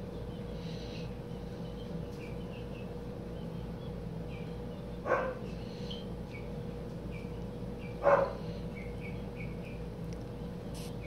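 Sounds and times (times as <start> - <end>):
baby bird feeding noises: 0.0 - 11.0.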